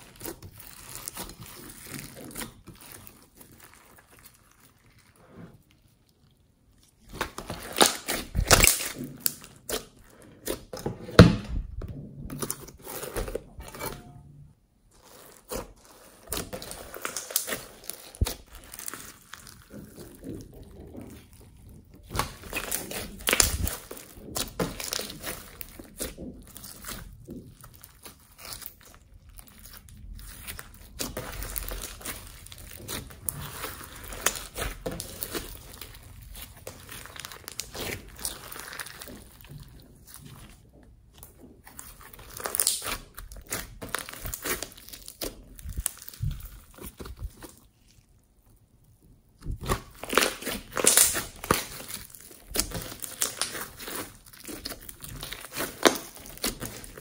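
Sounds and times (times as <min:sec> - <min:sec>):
slime squeezed with sticky crackles: 0:00.0 - 0:10.8, 0:14.9 - 0:57.0.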